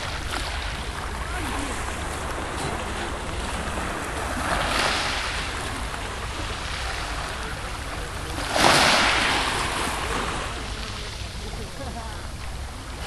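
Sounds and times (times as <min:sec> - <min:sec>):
steady low rumble: 0:00.0 - 0:13.0
waves washing onto pebbles: 0:00.0 - 0:13.0.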